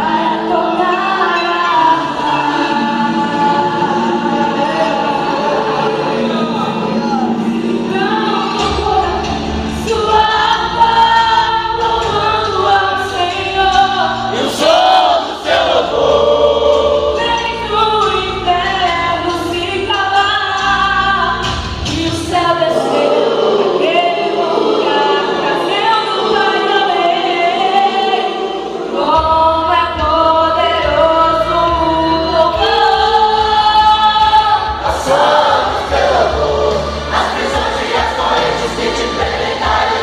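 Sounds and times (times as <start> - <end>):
choir singing gospel song: 0.0 - 40.0
instrumental accompaniment: 0.0 - 40.0.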